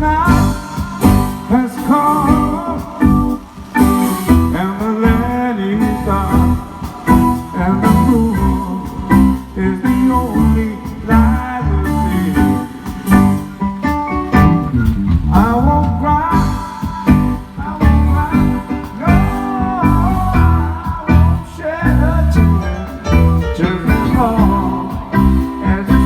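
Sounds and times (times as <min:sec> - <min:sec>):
person singing: 0:00.0 - 0:14.3, 0:15.1 - 0:26.0
blues band guitar: 0:00.0 - 0:26.0
steady drum beat: 0:00.0 - 0:26.0.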